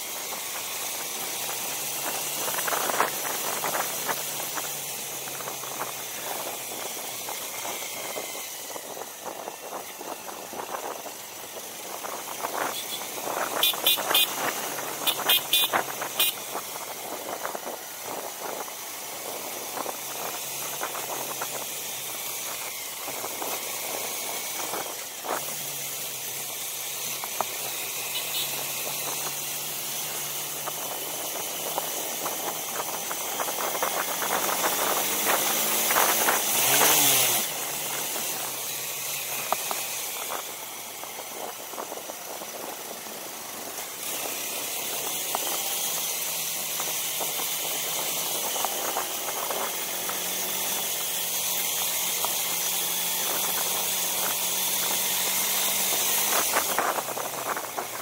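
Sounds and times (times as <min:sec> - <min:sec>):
small motorbike engine running: 0:00.0 - 0:58.0
wind noise on microphone: 0:01.4 - 0:25.7, 0:30.0 - 0:38.6, 0:39.6 - 0:51.1, 0:52.7 - 0:58.0.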